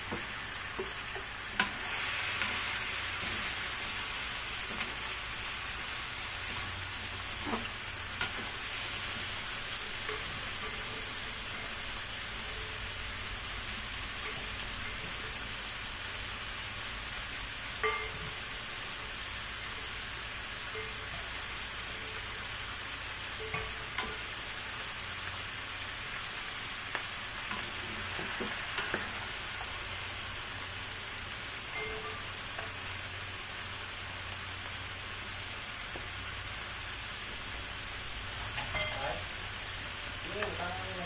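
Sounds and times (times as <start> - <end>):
chicken sizzling in a pan: 0.0 - 41.0.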